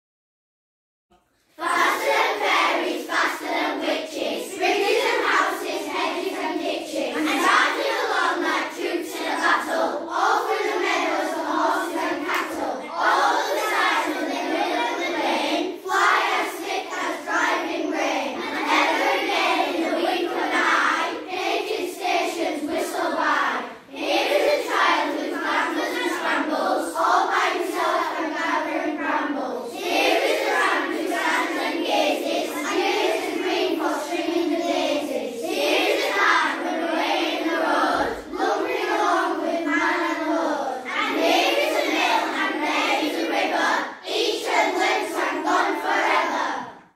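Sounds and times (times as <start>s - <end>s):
children reciting in unison: 1.4s - 46.9s.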